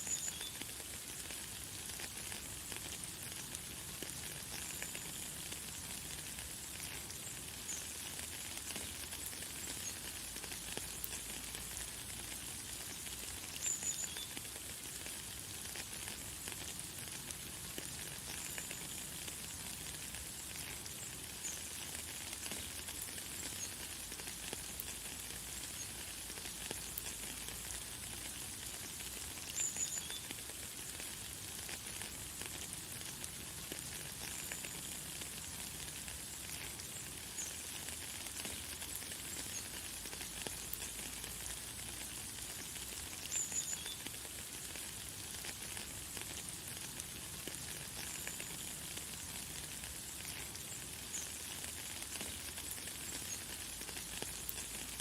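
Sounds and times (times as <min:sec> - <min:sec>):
light rain hissing: 0:00.0 - 0:55.0.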